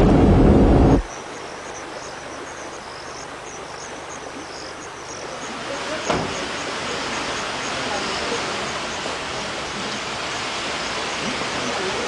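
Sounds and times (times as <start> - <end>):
steady hiss: 0.0 - 12.0
insects chirping: 1.1 - 12.0.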